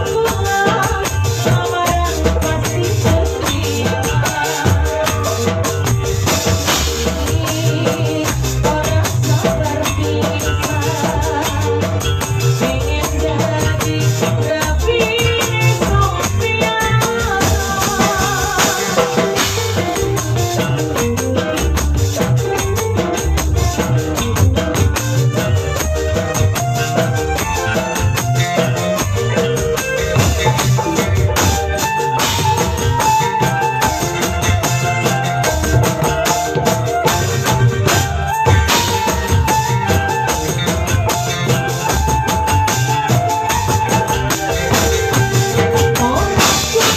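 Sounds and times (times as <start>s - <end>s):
band music with steady beat: 0.0s - 46.9s.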